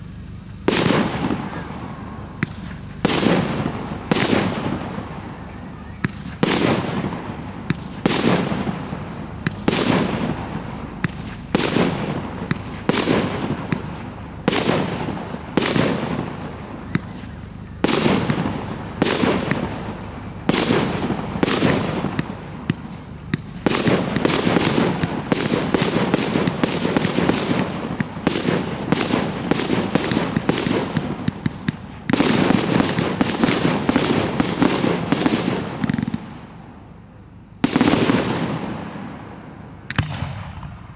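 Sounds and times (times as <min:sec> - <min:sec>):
firework crackling: 0:00.0 - 0:39.1
firework shells bursting with bangs: 0:00.0 - 0:40.8.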